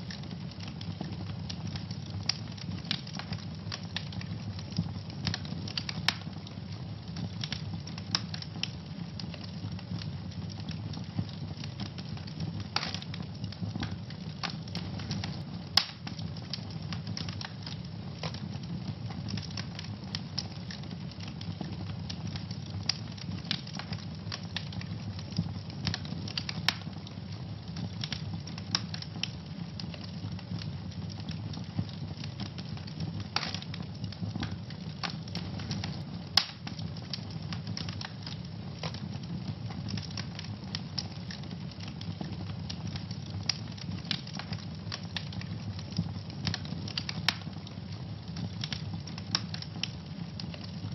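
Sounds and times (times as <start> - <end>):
fire crackles and pops: 0.0 - 50.9
fire flames rumbling: 0.0 - 50.9.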